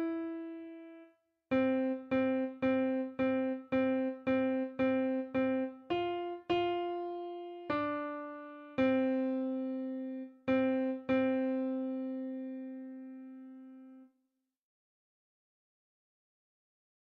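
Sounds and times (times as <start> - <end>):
slow piano notes: 0.0 - 14.0.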